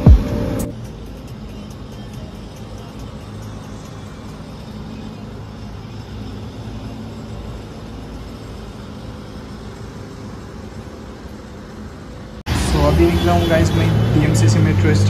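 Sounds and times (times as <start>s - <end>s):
rumble of motor vehicles: 0.0s - 15.0s.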